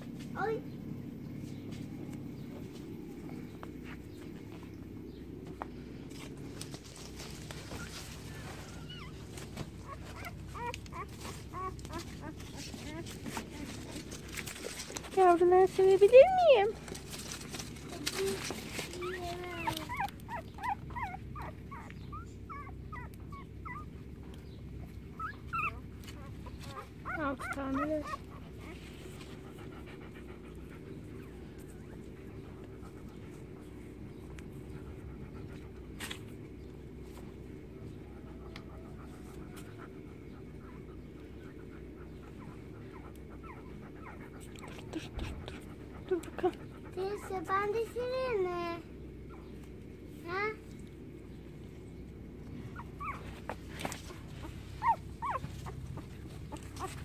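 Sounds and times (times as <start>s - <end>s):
constant low hum: 0.0s - 57.0s
dog panting: 6.1s - 49.8s, 52.4s - 57.0s
puppies whimpering: 6.4s - 49.8s, 51.0s - 57.0s.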